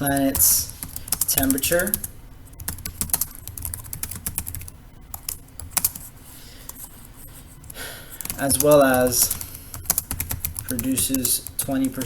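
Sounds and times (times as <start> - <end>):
computer keyboard typing: 0.0 - 6.1, 7.6 - 12.0.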